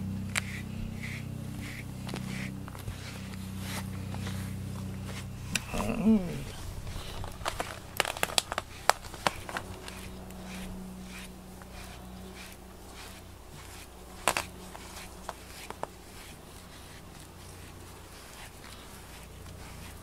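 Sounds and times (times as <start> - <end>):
steady low hum: 0.0 - 20.0
brush rustling through fur: 0.1 - 20.0.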